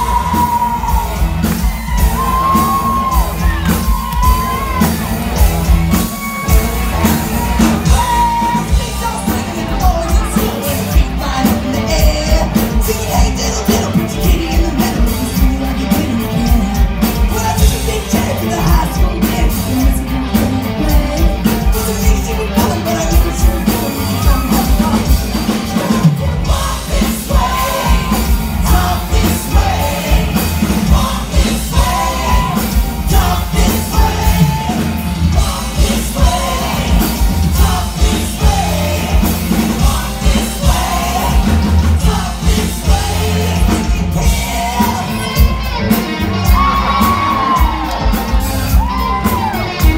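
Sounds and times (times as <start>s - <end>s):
live rock band playing: 0.0s - 49.9s
steady drum beat: 0.0s - 49.9s
lead singer singing: 6.1s - 49.9s.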